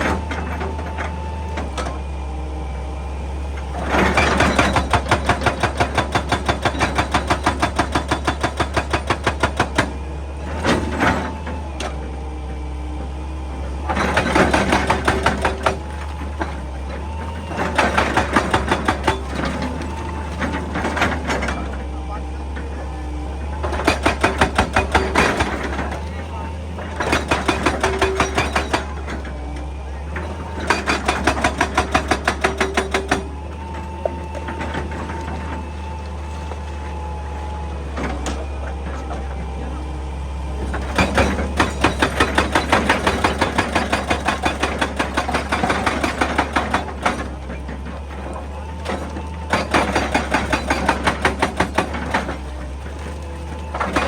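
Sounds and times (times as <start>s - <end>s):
hydraulic breaker hammering rock: 0.0s - 2.1s, 3.5s - 54.0s
excavator engine running: 0.0s - 54.0s.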